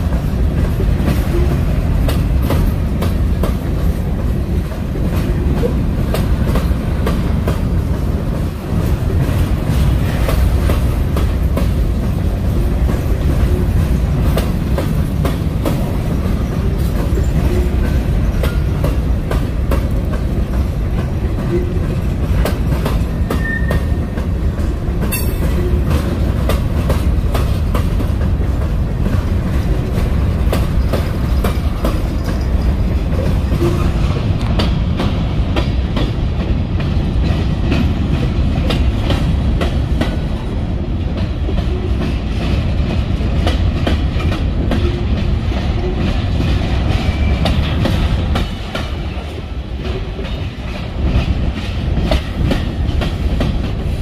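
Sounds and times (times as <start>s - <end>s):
train wheels clicking over rails: 0.0s - 54.0s.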